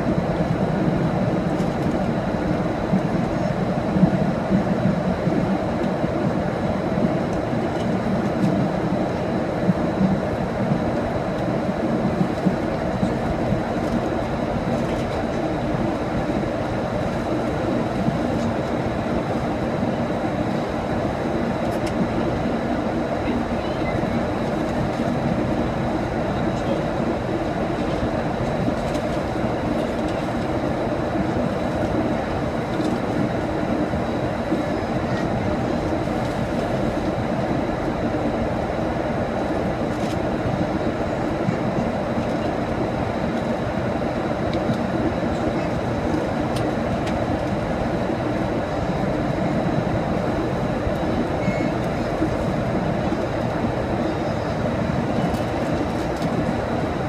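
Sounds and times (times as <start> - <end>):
airliner cabin rumble: 0.0 - 57.0.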